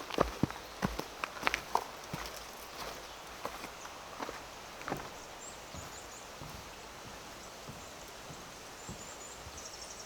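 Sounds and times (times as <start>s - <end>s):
outdoor background noise: 0.0s - 10.0s
soft footsteps on forest ground: 0.0s - 10.0s.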